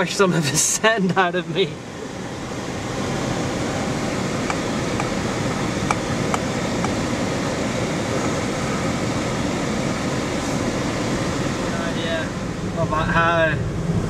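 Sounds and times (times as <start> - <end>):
car running noise: 0.0 - 14.0
strong wind against car: 1.8 - 14.0.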